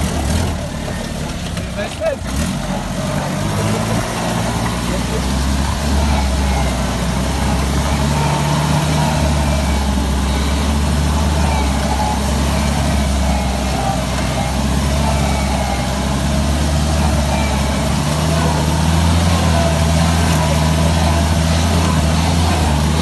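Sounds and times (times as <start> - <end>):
car engine driving: 0.0 - 23.0.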